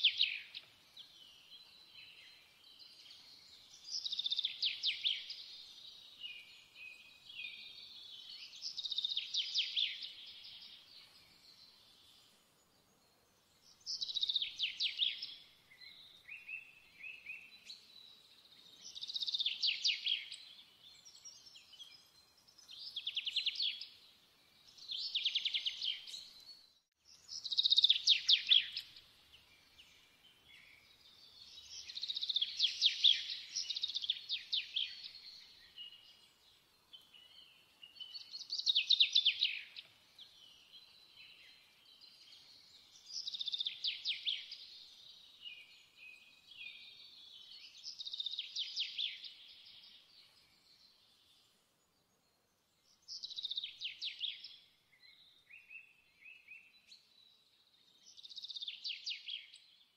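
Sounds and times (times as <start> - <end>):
faint bird chirps: 0.0 - 59.9.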